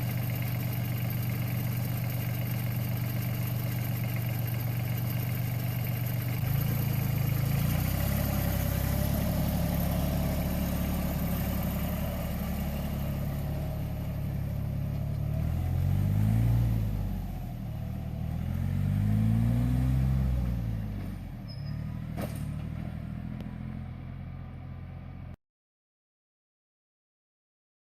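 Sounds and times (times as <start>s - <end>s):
tractor engine revving: 0.0s - 25.2s.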